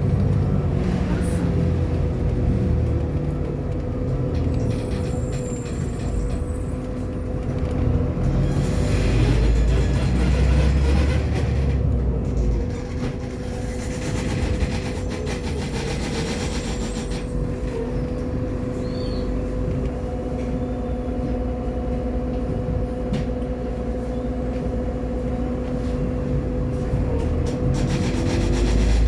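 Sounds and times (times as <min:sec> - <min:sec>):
bus engine and drivetrain hum: 0:00.0 - 0:29.0.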